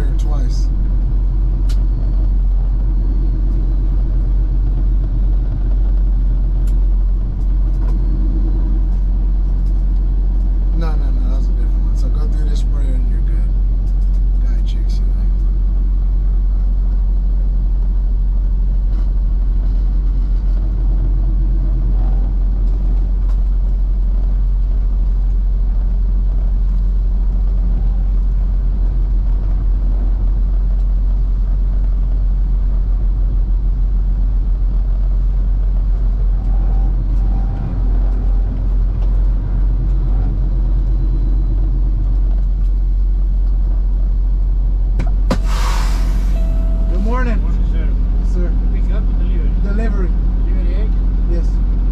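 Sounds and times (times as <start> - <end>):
road noise: 0.0 - 51.9
truck engine drone: 0.0 - 51.9.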